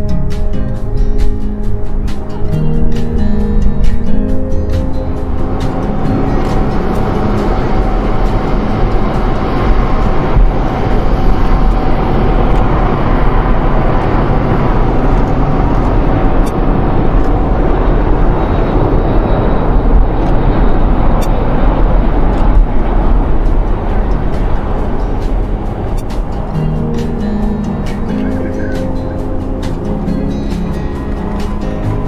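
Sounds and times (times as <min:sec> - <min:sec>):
faint engine whine: 0:00.0 - 0:32.0
jet engine rushing: 0:00.0 - 0:32.0
low rumble: 0:00.0 - 0:32.0.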